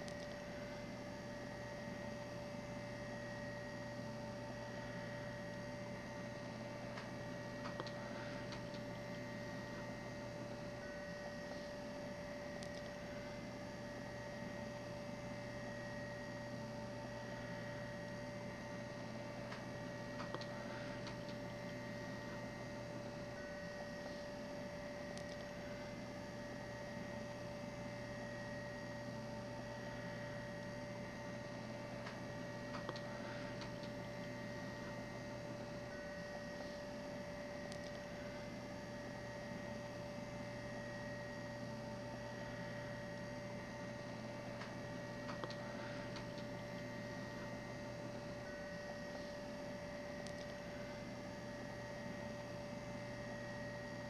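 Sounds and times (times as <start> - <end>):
electrical hum: 0.0 - 54.0
faint high steady tones: 0.0 - 54.0.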